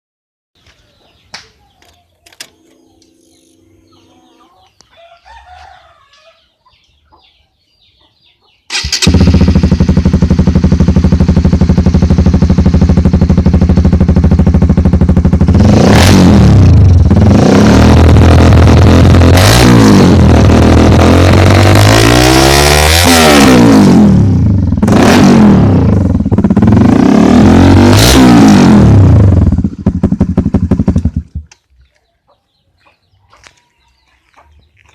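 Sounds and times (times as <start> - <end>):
motorcycle engine idling and revving: 6.8 - 34.9.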